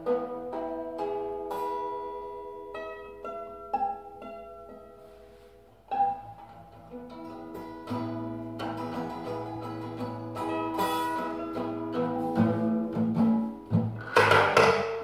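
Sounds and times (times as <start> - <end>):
acoustic guitar notes plucked: 0.0 - 15.0.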